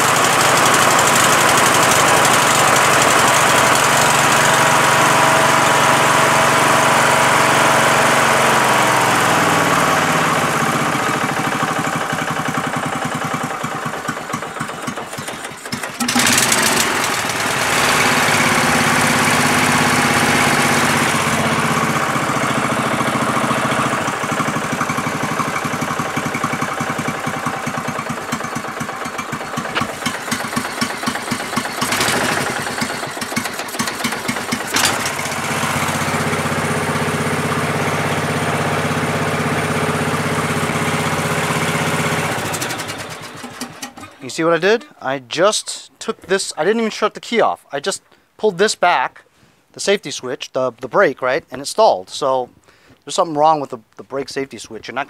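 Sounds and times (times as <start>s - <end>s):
lawn tractor engine running: 0.0s - 44.9s.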